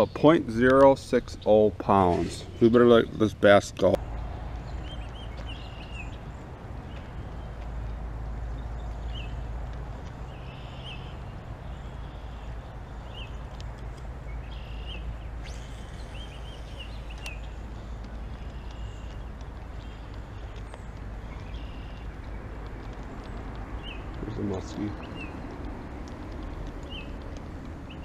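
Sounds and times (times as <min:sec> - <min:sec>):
birds chirping: 0:00.0 - 0:28.0
steady low rumble: 0:00.0 - 0:28.0.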